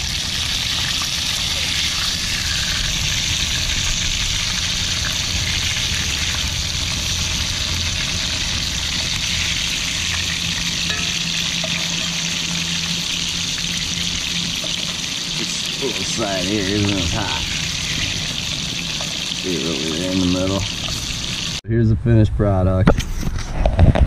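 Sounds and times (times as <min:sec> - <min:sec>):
fish fillets sizzling in hot oil: 0:00.0 - 0:21.6
low rumble: 0:00.0 - 0:22.7.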